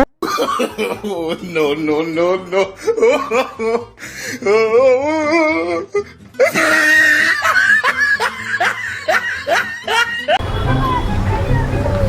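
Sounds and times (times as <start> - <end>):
laughter: 0.2 - 12.0
background music: 2.2 - 12.0.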